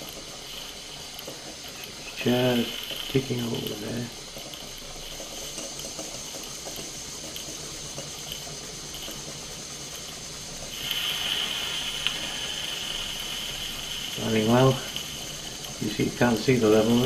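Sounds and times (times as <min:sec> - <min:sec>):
exhaust steam gurgling: 0:00.0 - 0:17.0
steady steam hiss: 0:00.0 - 0:17.0
steam engine ticking over: 0:00.0 - 0:17.0.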